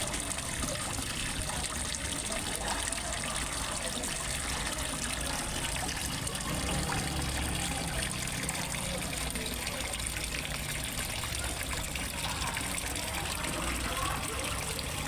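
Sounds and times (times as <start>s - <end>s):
water splashing into pond: 0.0s - 15.0s.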